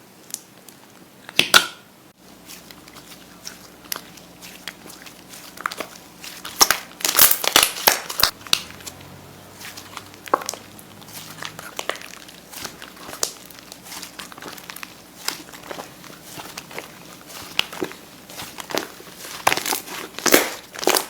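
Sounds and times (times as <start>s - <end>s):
slime crackling when squeezed: 2.5s - 21.0s.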